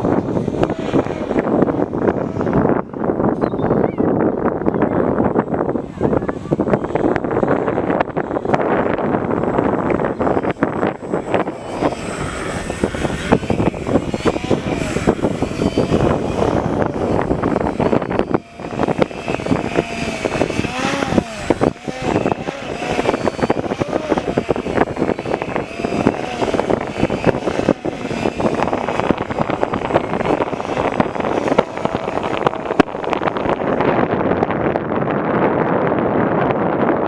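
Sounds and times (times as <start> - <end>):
model plane electric motor whine: 0.0 - 3.5, 4.2 - 35.7
wind buffeting microphone: 0.0 - 37.0.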